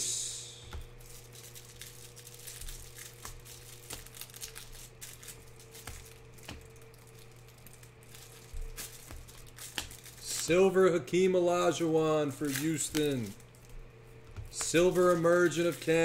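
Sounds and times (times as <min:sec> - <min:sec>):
low steady hum: 0:00.0 - 0:16.0
cards flipping and clicking: 0:00.7 - 0:10.6, 0:12.4 - 0:16.0.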